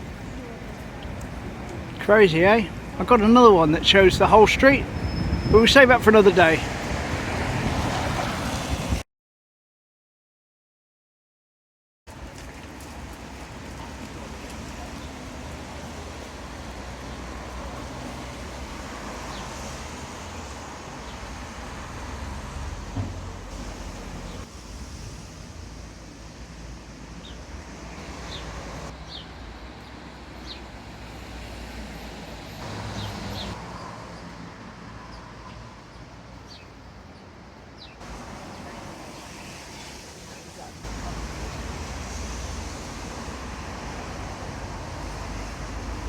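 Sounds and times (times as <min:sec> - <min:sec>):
cars passing: 0:00.0 - 0:09.0, 0:12.1 - 0:46.0.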